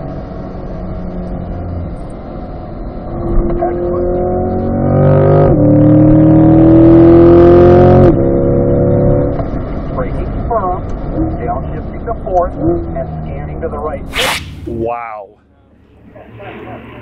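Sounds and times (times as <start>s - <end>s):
car engine hard acceleration: 0.0s - 14.8s.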